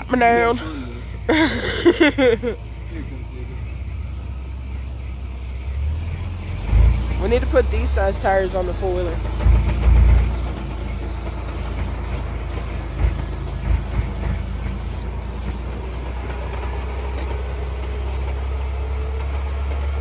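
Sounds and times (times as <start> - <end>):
off-road vehicle engine drone: 0.0 - 20.0.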